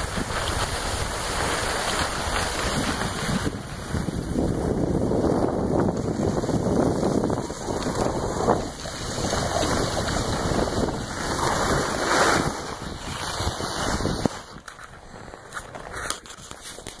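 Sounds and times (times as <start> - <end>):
skis scraping on snow: 0.0 - 17.0
wind rushing over microphone: 0.0 - 17.0.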